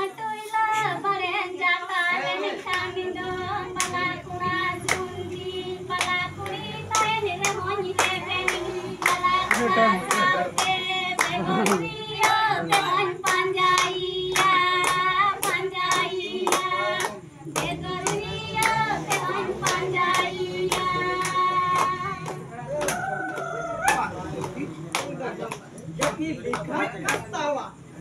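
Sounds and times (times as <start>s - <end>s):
women singing together: 0.0s - 24.3s
rhythmic clapping: 2.1s - 27.7s.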